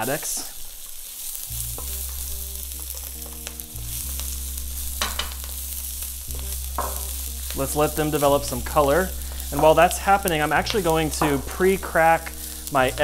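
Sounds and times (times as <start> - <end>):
sizzling in hot oil: 0.0 - 13.0.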